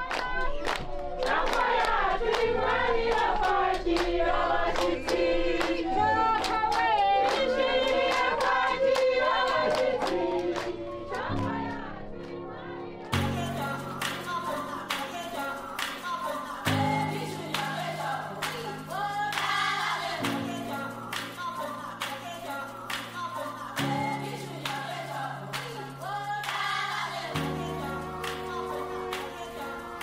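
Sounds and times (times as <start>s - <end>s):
hand-clapping: 0.0s - 2.5s, 3.1s - 5.8s, 6.4s - 10.8s, 13.1s - 30.0s
women singing together: 0.0s - 30.0s.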